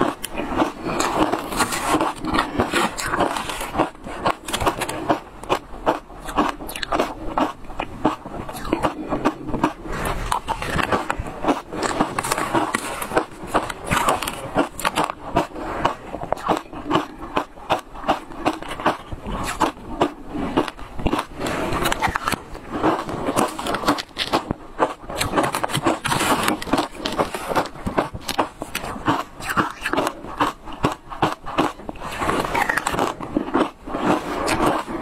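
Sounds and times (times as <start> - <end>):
chewing crunchy shaved ice: 0.0 - 35.0.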